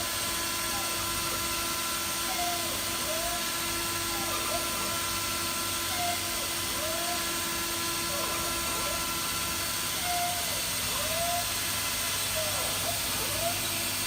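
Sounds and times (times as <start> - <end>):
gliding machine whines: 0.0 - 14.0
machining center humming: 0.0 - 14.0.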